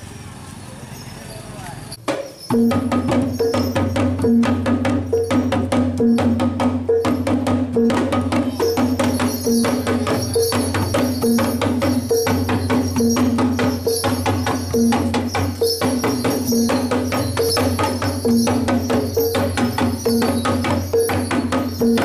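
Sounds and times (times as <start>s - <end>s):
drums beaten with sticks: 2.0s - 22.0s.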